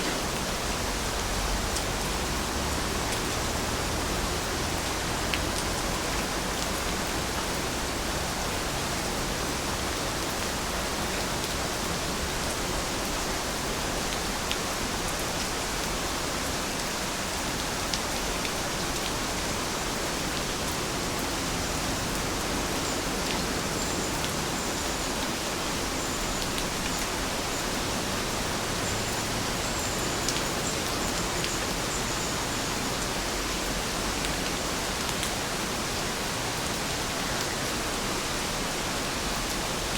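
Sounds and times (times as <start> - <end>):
raindrops ticking on a surface: 0.0 - 38.2
steady rainfall hiss: 0.0 - 39.9.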